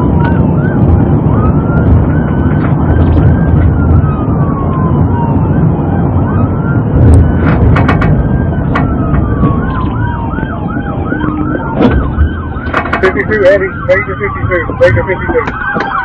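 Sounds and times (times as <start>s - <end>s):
car engine tyre and wind noise: 0.0s - 16.0s
police siren yelping and wailing: 0.0s - 16.0s.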